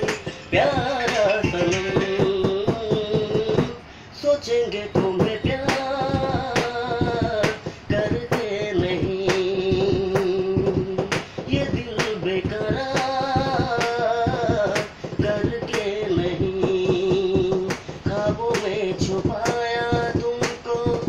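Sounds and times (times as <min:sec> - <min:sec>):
sharp tap keeping the beat: 0:00.0 - 0:03.8, 0:04.9 - 0:21.0
man singing unaccompanied: 0:00.0 - 0:21.0.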